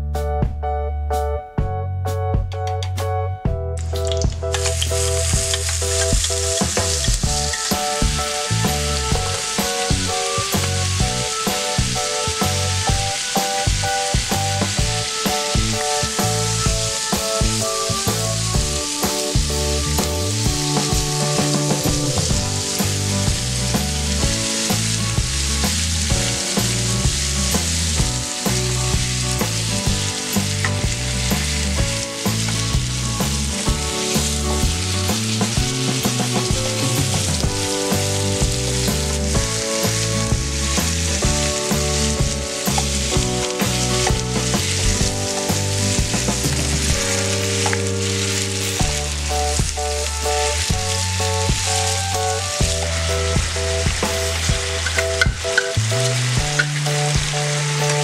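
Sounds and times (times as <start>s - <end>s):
vegetables sizzling in hot oil: 3.8s - 58.0s.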